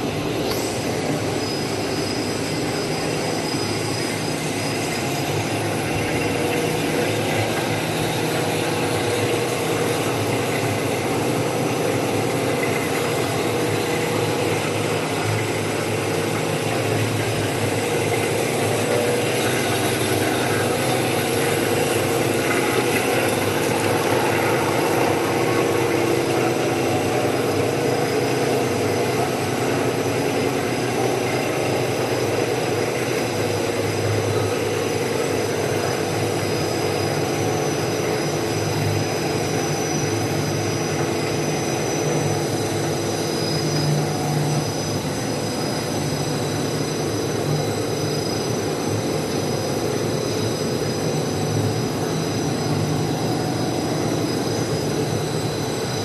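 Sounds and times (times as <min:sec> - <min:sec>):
motors and rollers din: 0:00.0 - 0:56.0.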